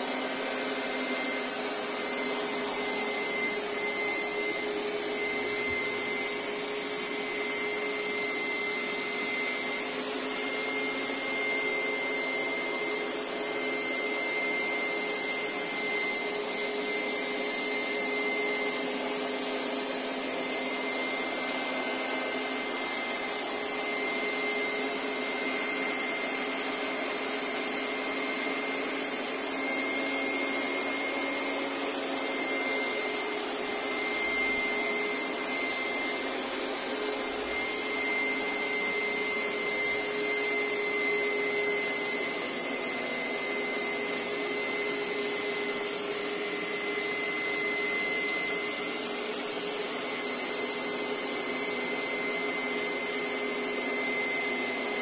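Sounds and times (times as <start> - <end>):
carpet cleaner motor humming: 0.0 - 55.0.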